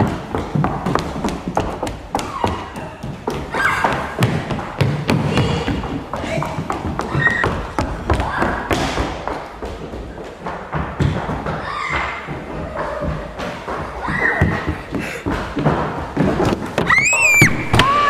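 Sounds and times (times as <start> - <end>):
footsteps on wooden floor: 0.0 - 18.0.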